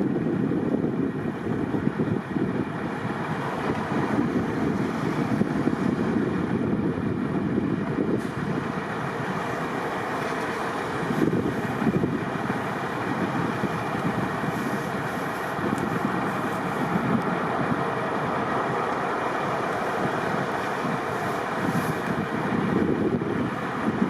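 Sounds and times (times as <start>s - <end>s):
highway traffic noise: 0.0s - 24.0s
wind on microphone: 0.0s - 24.0s.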